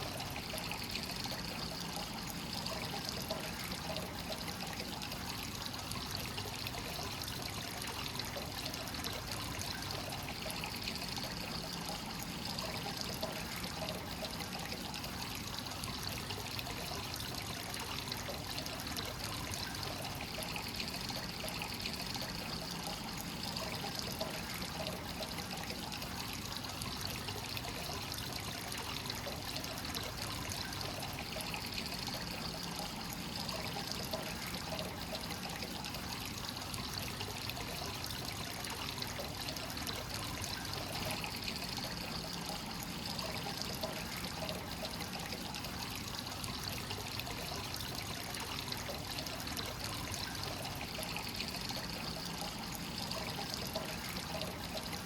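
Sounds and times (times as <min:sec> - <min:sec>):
water pouring into a bath: 0:00.0 - 0:55.0.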